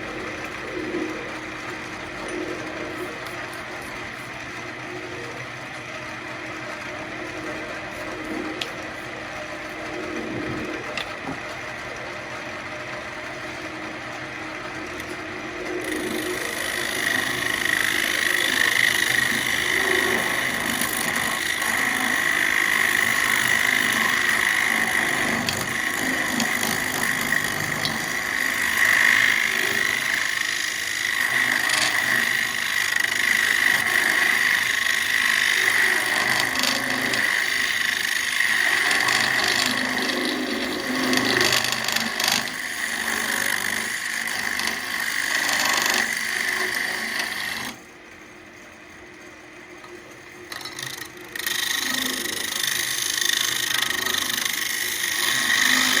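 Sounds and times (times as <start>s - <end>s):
tool scraping spinning wood: 0.0s - 47.8s, 50.4s - 56.0s
lathe motor hum: 0.0s - 56.0s.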